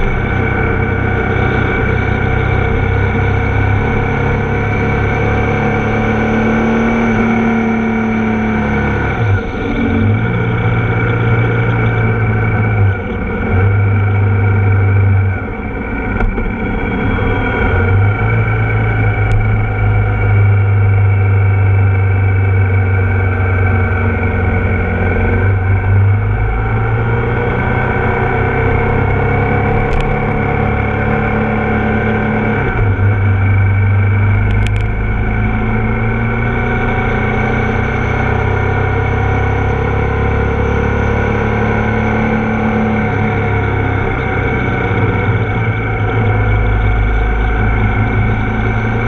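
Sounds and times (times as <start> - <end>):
motorcycle engine cruising: 0.0 - 49.0
wind rumble: 0.0 - 49.0.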